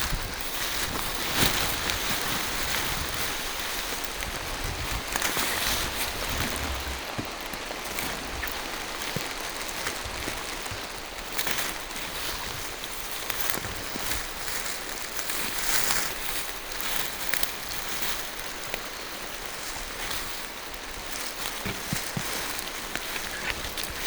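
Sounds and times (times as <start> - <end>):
drops striking leaves: 0.0 - 24.0
rain on forest canopy: 0.0 - 24.0.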